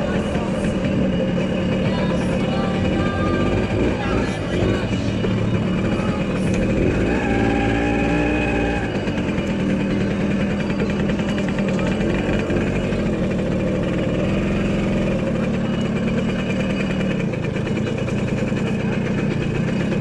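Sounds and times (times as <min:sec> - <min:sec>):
car engine running: 0:00.0 - 0:20.0
held steady tone: 0:00.0 - 0:20.0.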